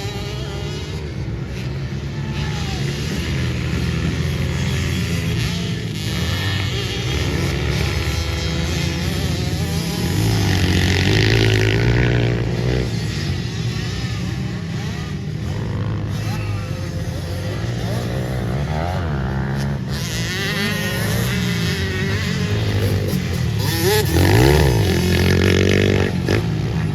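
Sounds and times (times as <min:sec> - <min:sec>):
pit bike engines revving: 0:00.0 - 0:26.9.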